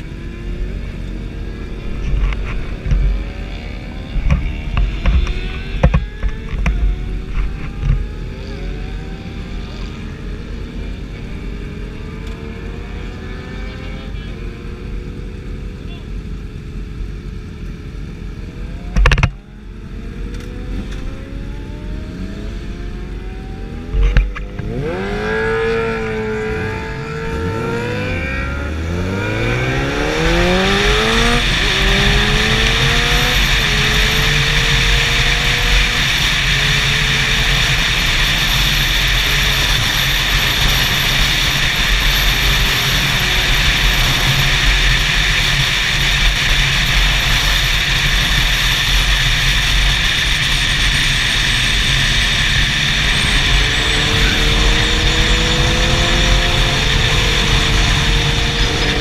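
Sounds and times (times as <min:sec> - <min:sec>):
motorcycle engine revving: 0:00.0 - 0:15.7, 0:18.4 - 0:59.0
engine and wind rush at speed: 0:00.0 - 0:59.0.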